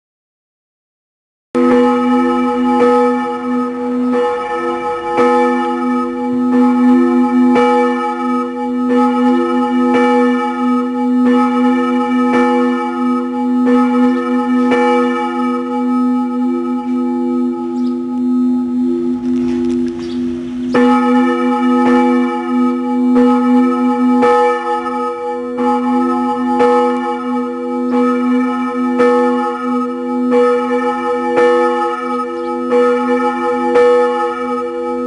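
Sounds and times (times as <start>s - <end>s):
church bell tolling: 1.6s - 35.0s.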